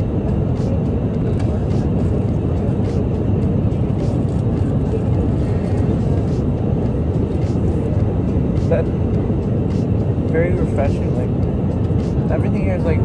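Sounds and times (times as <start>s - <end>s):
jet airliner cabin drone: 0.0s - 13.0s.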